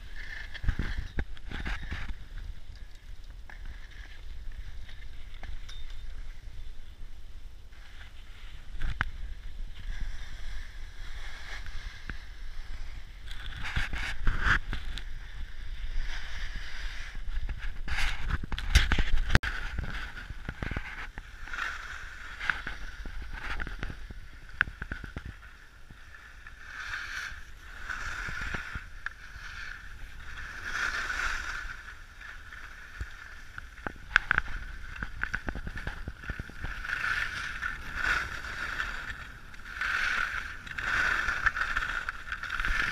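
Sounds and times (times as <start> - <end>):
skis carving on packed snow: 0.0 - 6.5, 7.6 - 42.9.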